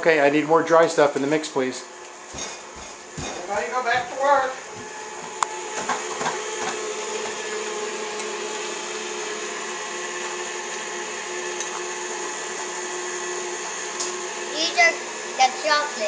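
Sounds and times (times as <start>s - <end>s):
electric stand mixer motor running: 3.0s - 16.0s.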